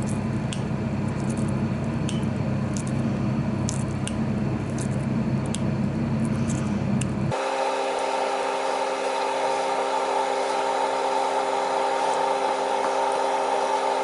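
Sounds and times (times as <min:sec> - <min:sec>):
machine whirring hum: 0:00.0 - 0:14.0.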